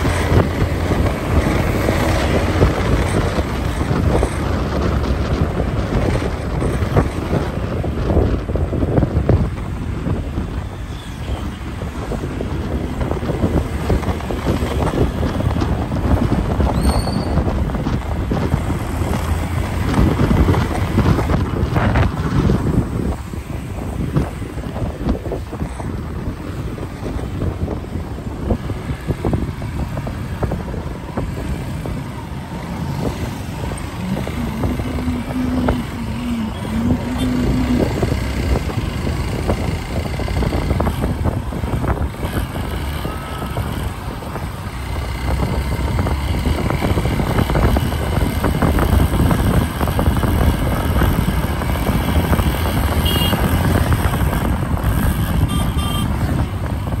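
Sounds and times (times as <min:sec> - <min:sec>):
traffic and road noise: 0:00.0 - 0:57.0
wind rushing over microphone: 0:00.0 - 0:57.0.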